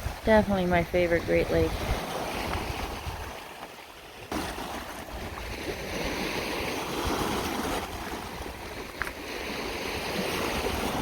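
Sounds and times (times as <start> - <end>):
water washing over rocky shore: 0.0 - 11.0
wind on microphone: 0.0 - 11.0.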